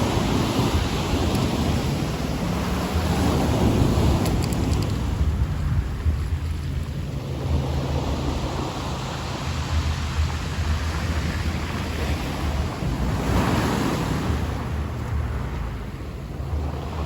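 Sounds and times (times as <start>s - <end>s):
sea waves washing in: 0.0s - 17.0s
wind rumbling on microphone: 0.0s - 17.0s.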